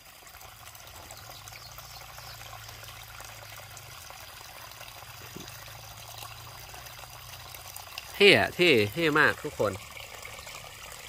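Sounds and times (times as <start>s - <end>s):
shallow water trickling over stones: 0.0s - 11.0s.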